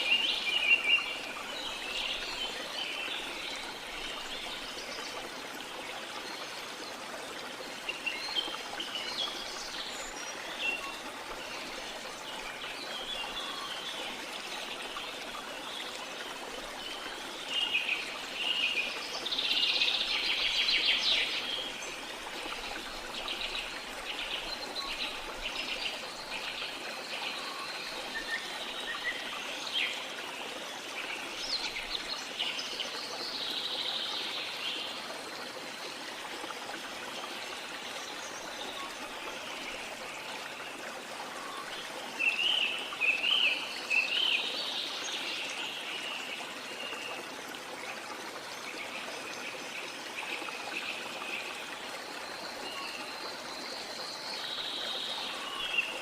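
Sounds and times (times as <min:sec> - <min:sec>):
rush of running water: 0:00.0 - 0:56.0.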